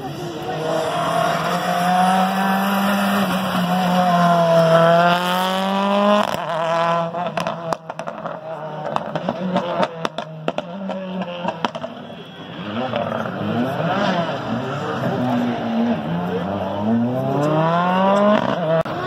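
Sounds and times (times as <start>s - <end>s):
rally car engine revving: 0.0s - 12.0s, 12.6s - 19.0s.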